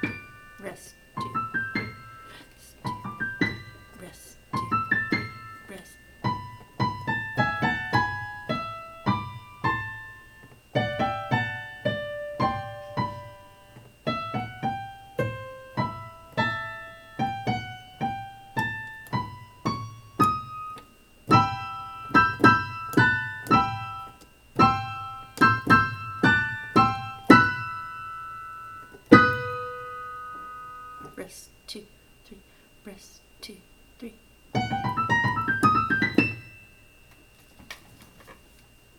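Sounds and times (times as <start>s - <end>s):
piano melody: 0.0s - 31.2s, 34.5s - 37.1s.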